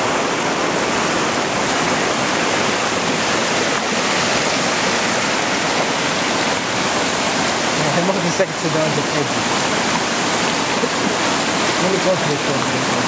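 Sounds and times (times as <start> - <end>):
fast-flowing stream rushing: 0.0 - 13.0.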